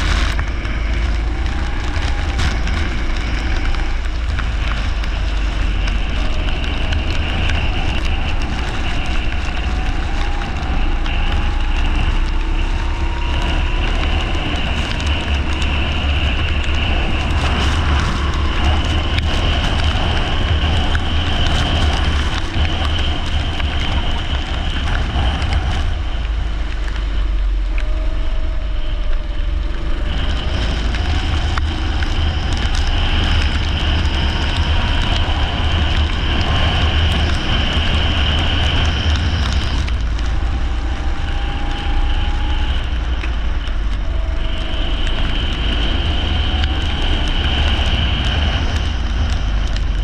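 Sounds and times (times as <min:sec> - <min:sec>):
kart engine: 0:00.0 - 0:50.0
wind rumble on microphone: 0:00.0 - 0:50.0.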